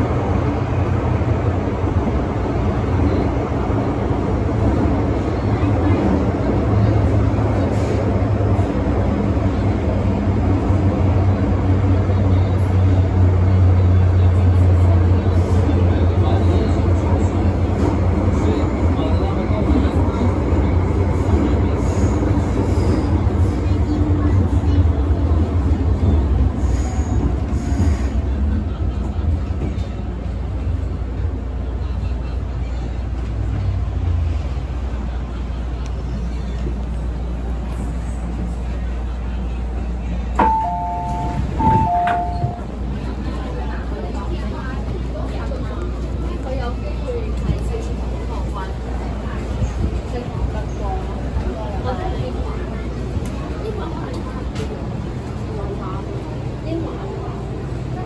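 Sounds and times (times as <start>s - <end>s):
train low hum: 0.0s - 58.0s
wheels rumbling on rail: 0.0s - 58.0s.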